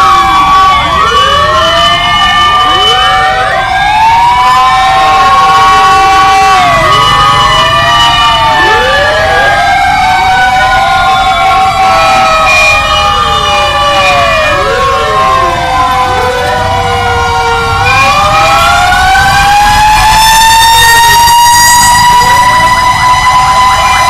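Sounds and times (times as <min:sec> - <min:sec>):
fire truck sirens wailing: 0:00.0 - 0:24.0
heavy truck engines rumbling: 0:00.0 - 0:24.0.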